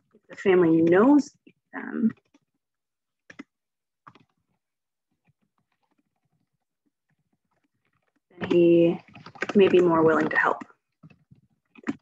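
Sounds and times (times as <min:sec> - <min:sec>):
faint keyboard typing: 0:00.0 - 0:12.0.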